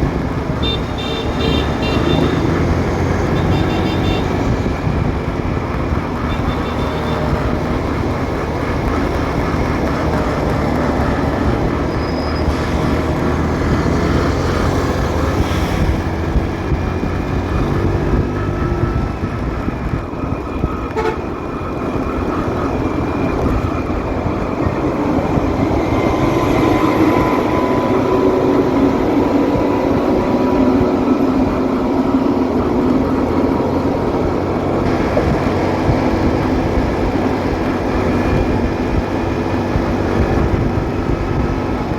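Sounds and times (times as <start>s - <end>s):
motorcycle engine: 0.0s - 41.9s
traffic passing: 0.0s - 41.9s.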